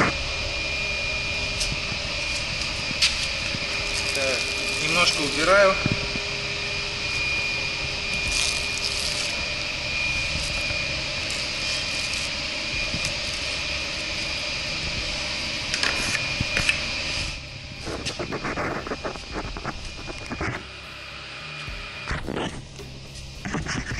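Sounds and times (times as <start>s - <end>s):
motor hum with high whine: 0.0s - 23.9s.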